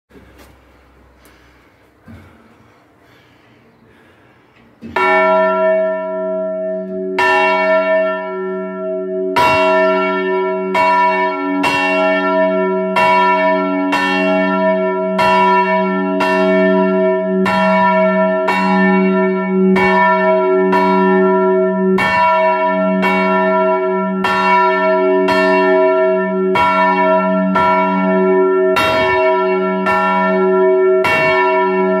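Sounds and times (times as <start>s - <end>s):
large church bell ringing: 4.8s - 32.0s.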